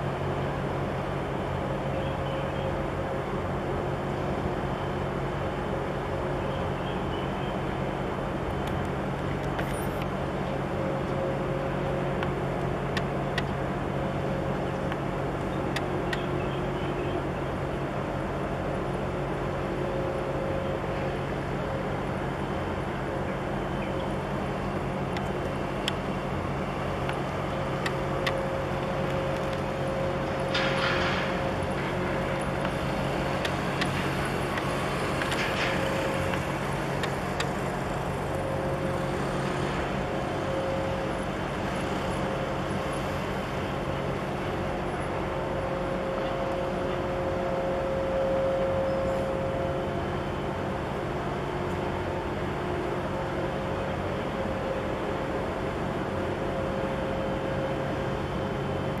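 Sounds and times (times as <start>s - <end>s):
faint humming tone: 0.0s - 59.0s
ship engines droning: 0.0s - 59.0s.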